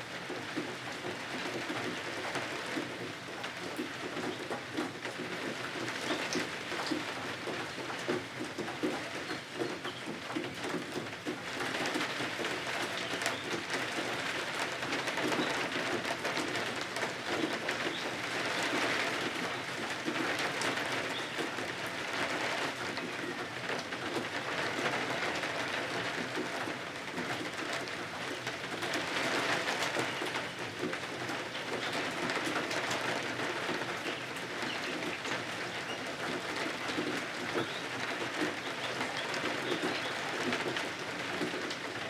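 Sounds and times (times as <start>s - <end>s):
rain pattering: 0.0s - 42.0s.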